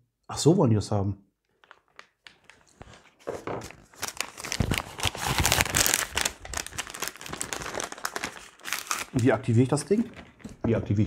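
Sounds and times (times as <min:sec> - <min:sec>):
plastic packaging crinkling: 0:01.5 - 0:10.6.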